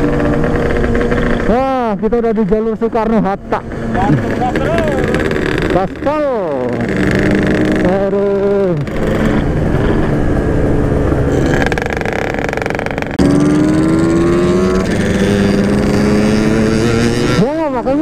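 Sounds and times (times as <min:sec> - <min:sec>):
two-stroke motorcycle engine accelerating: 0:00.0 - 0:18.0.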